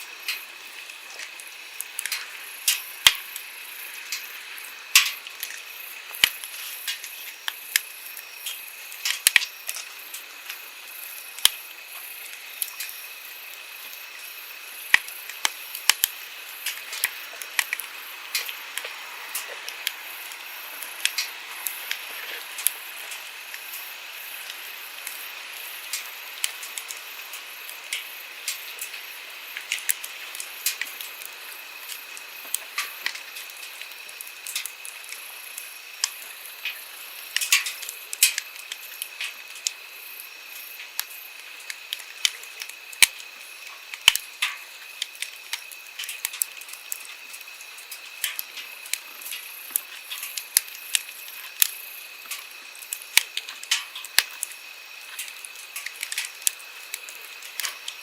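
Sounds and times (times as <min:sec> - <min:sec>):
campfire crackling and popping: 0:00.0 - 0:58.0
flowing stream hiss: 0:00.0 - 0:58.0.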